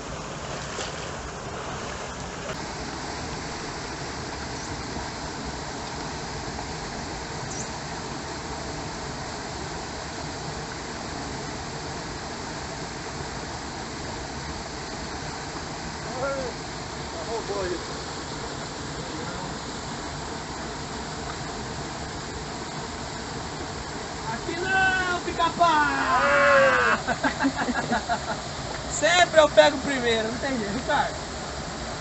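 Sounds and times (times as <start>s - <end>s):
small waterfall rushing: 0.0s - 32.0s.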